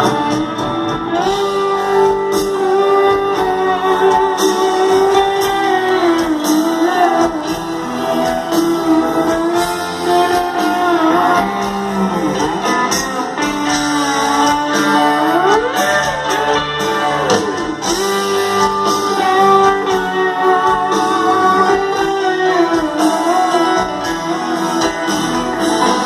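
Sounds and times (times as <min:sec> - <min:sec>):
instrumental rock band: 0:00.0 - 0:26.0
lead guitar bending notes: 0:00.0 - 0:26.0.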